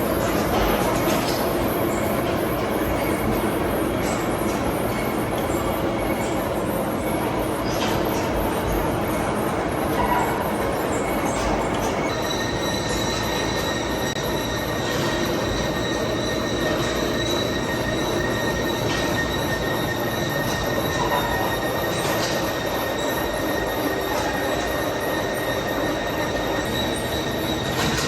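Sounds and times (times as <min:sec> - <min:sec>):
high-pitched metallic whine: 0:00.0 - 0:28.0
metal-cutting machine running: 0:00.0 - 0:28.0.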